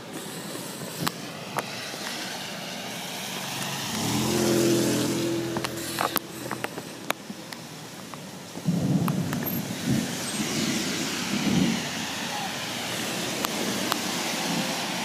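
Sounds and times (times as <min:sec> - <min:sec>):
rain hiss: 0:00.0 - 0:15.0
vehicle passing on wet street: 0:00.0 - 0:15.0.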